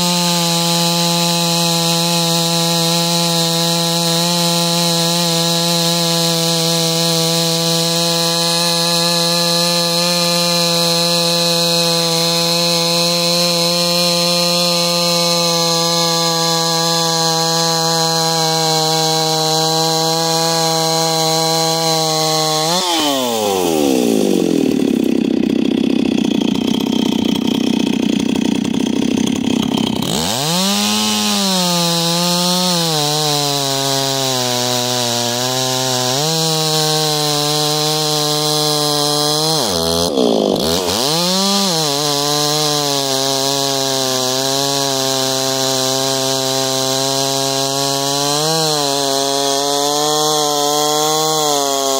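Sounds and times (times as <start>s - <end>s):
chainsaw cutting through log: 0.0s - 51.9s.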